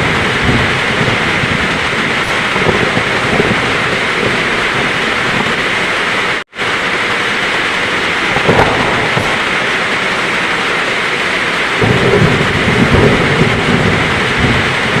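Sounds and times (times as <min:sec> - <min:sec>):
heavy rain pouring: 0:00.0 - 0:15.0
low thunder rumbling: 0:00.0 - 0:15.0.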